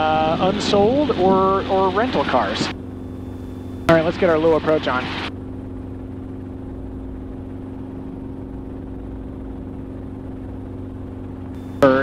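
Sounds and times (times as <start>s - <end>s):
helicopter engine and rotor droning: 0.0s - 12.0s.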